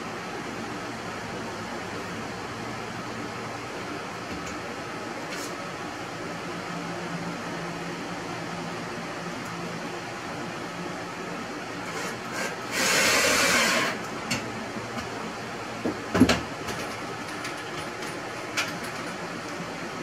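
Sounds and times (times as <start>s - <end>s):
fan hum: 0.0s - 20.0s.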